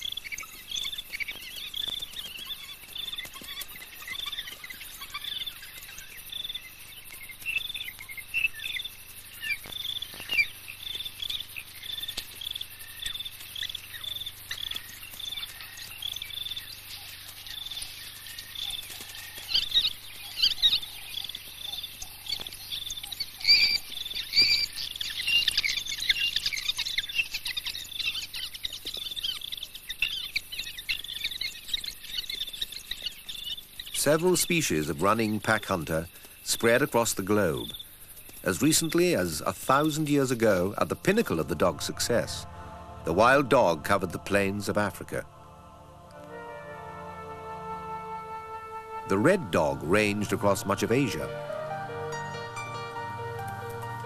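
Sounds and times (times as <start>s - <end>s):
night insects chirping: 0.0s - 54.0s.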